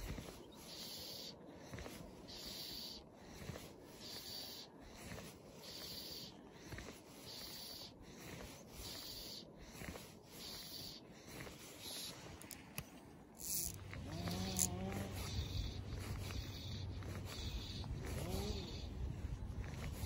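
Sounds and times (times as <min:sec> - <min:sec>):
fishing line scraping hiss: 0:00.0 - 0:19.0.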